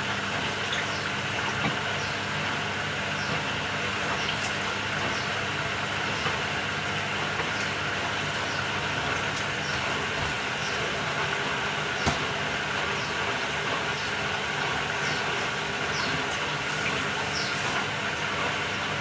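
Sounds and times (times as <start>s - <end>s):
washing machine churning: 0.0s - 19.0s.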